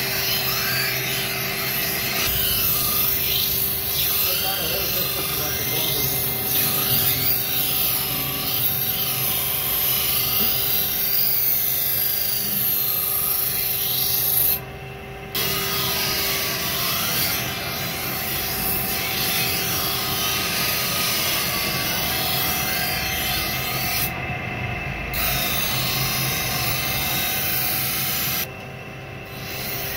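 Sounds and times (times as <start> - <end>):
grinding wheel grinding blade: 0.0 - 28.6, 29.2 - 29.9.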